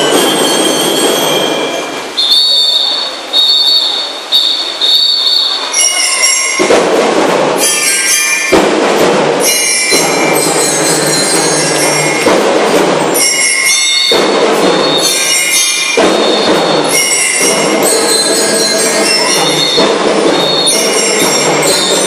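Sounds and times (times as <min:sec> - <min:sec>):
bell lyres ringing: 0:00.0 - 0:22.0
drums crashing: 0:00.0 - 0:22.0.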